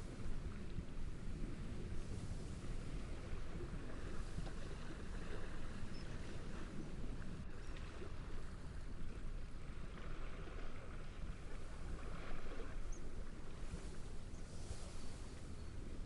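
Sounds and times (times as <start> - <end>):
waves washing at shore: 0.0 - 16.0.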